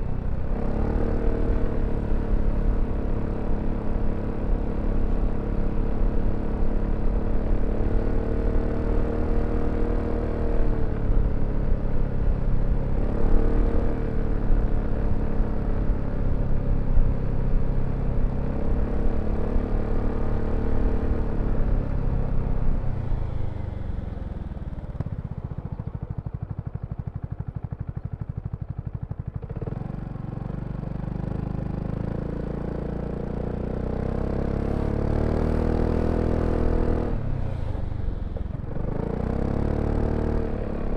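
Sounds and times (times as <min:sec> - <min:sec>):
scooter engine revving and idling: 0:00.0 - 0:40.9.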